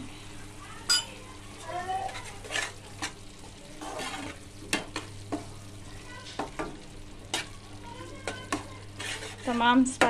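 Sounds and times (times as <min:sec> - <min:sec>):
food frying in a pan: 0:00.0 - 0:10.0
spatula stirring thick food: 0:01.5 - 0:10.0.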